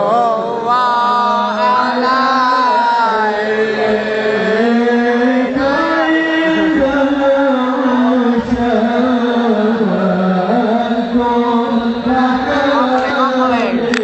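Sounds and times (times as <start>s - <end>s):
person chanting: 0.0s - 14.0s.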